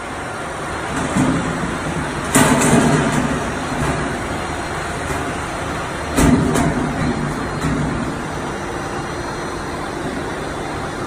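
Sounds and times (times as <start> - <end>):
workshop noise: 0.0 - 11.0.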